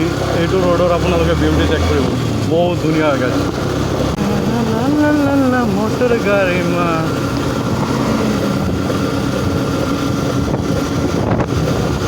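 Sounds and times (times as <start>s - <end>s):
motorcycle engine running: 0.0s - 12.0s
wind rushing over microphone: 1.8s - 12.0s.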